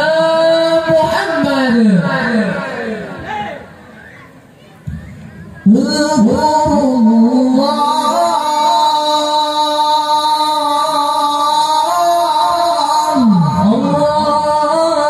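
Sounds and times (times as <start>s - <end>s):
man reciting melodically: 0.0s - 3.8s, 5.6s - 15.0s.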